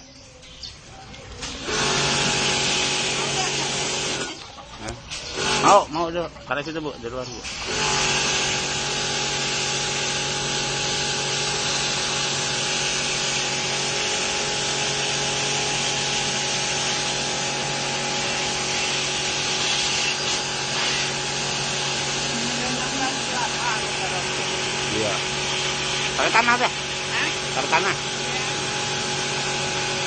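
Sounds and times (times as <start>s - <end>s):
small motor running: 1.4s - 4.5s, 5.1s - 6.2s, 7.4s - 30.0s.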